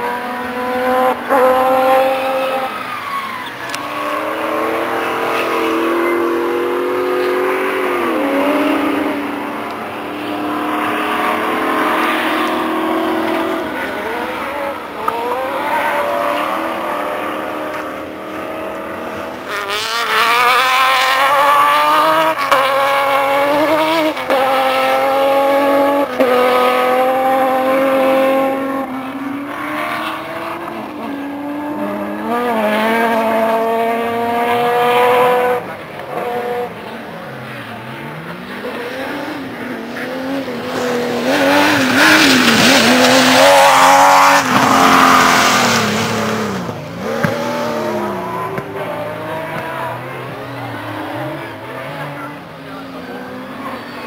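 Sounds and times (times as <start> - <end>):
rally car engines accelerating: 0.0 - 54.0.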